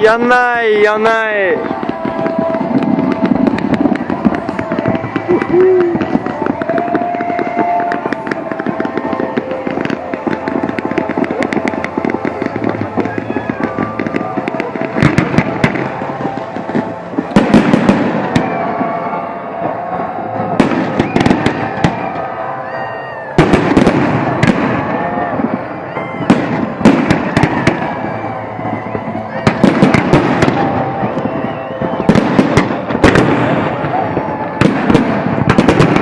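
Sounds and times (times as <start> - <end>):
fireworks bangs and crackling: 0.0 - 36.0
people's voices: 0.0 - 36.0.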